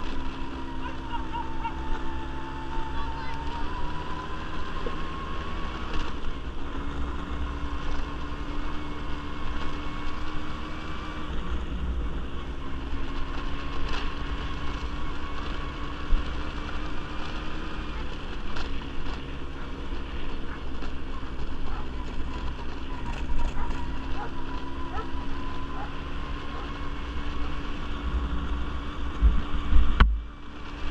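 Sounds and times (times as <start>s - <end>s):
quad bike engine running: 0.0s - 30.9s.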